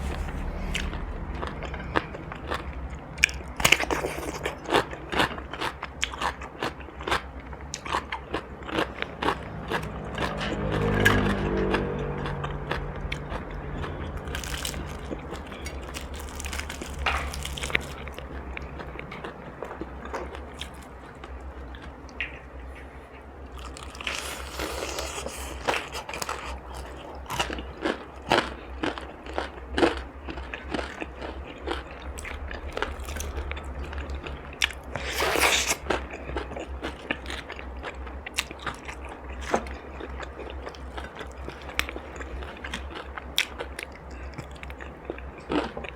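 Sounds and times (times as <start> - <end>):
crunchy food chewing: 0.0 - 45.9
steady low hum: 0.0 - 45.9.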